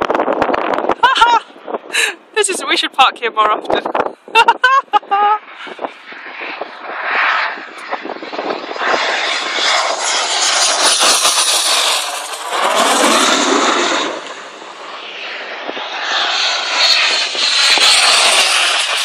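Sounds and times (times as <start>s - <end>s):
jet passing low overhead: 0.0s - 19.0s.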